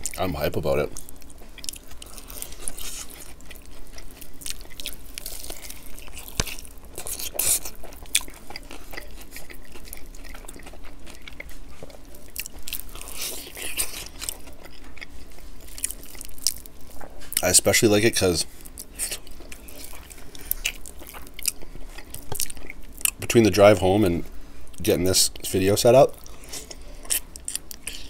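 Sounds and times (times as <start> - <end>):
person chewing crispy chicken: 0.8 - 23.5, 26.1 - 28.0.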